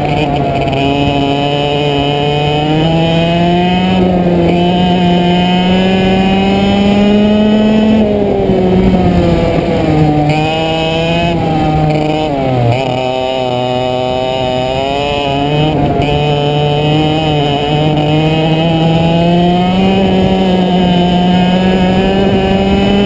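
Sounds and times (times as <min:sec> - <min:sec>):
go-kart engine revving: 0:00.0 - 0:23.0.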